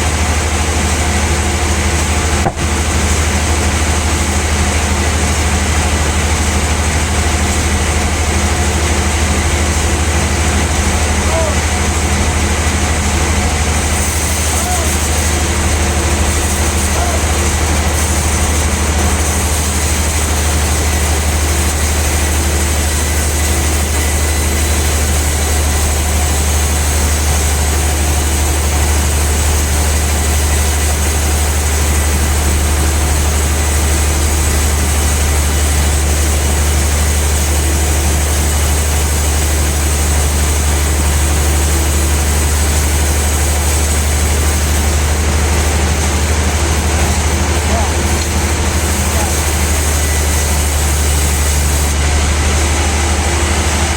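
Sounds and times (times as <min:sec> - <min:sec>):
band saw machinery humming: 0:00.0 - 0:53.9.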